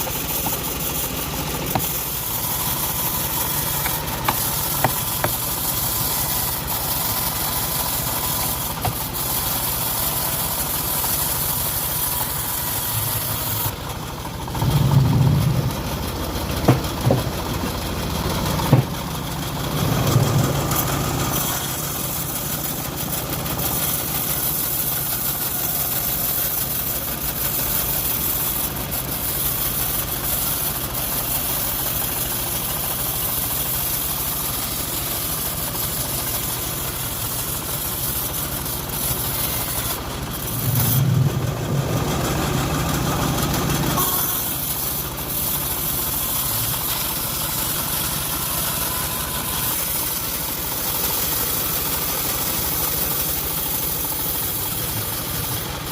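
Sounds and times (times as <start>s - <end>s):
bandsaw mill engine running: 0.0s - 55.9s.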